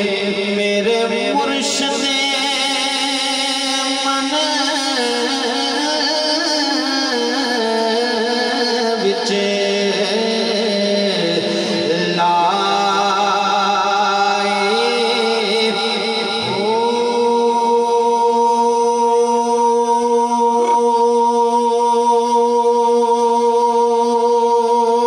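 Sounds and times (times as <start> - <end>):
person singing devotional song: 0.0 - 25.0.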